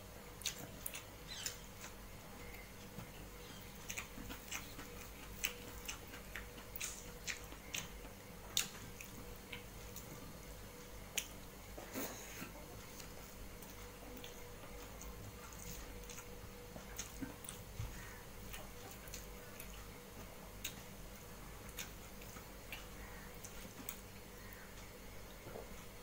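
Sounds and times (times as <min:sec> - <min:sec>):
low steady hum: 0:00.0 - 0:26.0
chewing: 0:00.4 - 0:10.2, 0:11.1 - 0:24.9.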